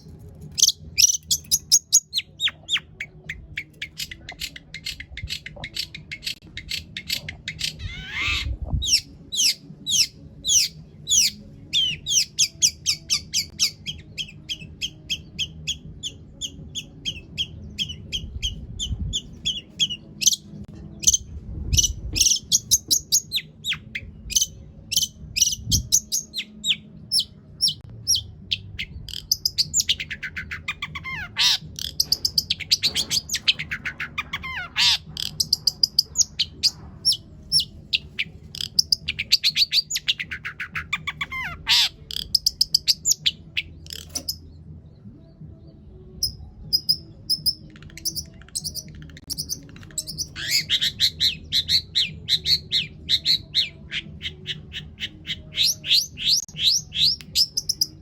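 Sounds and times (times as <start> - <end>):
shrike singing chattering song: 0.0 - 44.5, 46.2 - 58.0.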